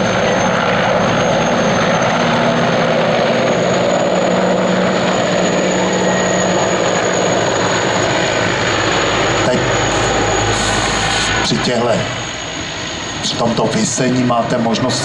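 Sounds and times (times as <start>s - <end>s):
helicopter rotor and engines: 0.0s - 15.0s
high turbine whine: 0.0s - 15.0s.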